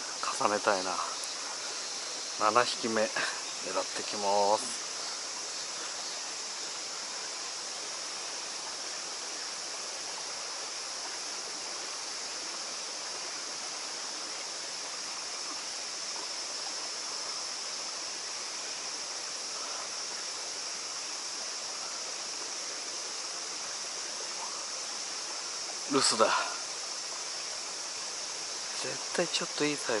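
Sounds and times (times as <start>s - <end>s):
waterfall rushing into pool: 0.0s - 30.0s.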